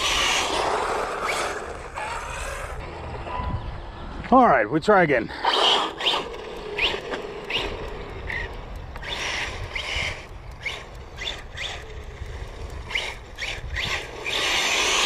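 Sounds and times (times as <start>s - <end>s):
electric motor whining: 0.0s - 3.9s, 5.4s - 15.0s.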